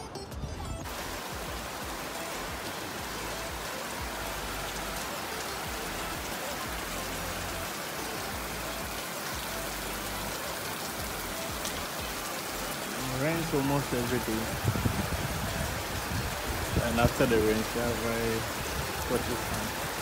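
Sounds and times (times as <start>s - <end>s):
rain on sand and concrete: 0.8s - 20.0s.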